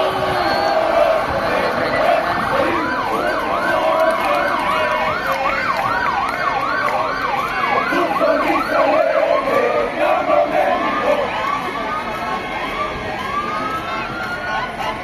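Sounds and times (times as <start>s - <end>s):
siren yelping: 0.0s - 12.1s.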